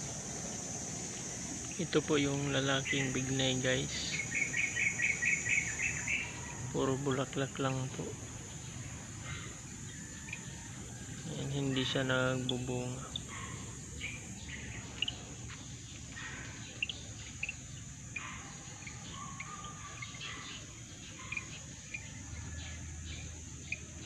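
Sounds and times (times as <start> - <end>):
bird chirps: 0.0 - 24.0
insects trilling: 0.0 - 24.0.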